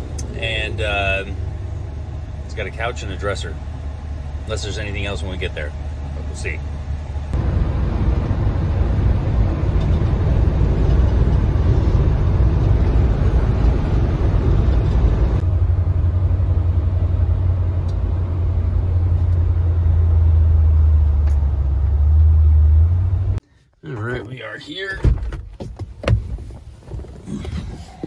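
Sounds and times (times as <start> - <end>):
road and engine noise inside van: 0.0 - 28.0.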